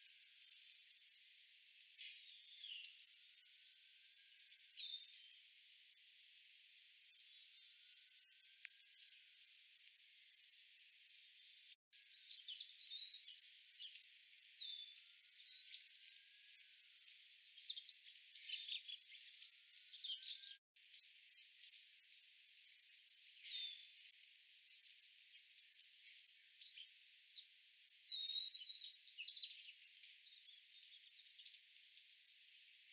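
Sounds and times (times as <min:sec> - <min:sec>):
sparrows chipping and twittering: 0:00.0 - 0:32.9.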